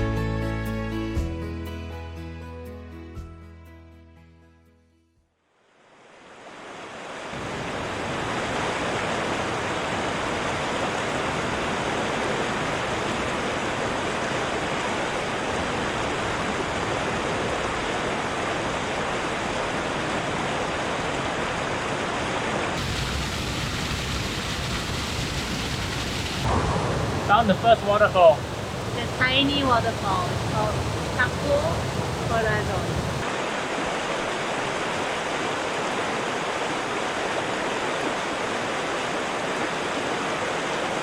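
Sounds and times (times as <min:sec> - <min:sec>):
waterfall rushing: 0:06.1 - 0:41.0.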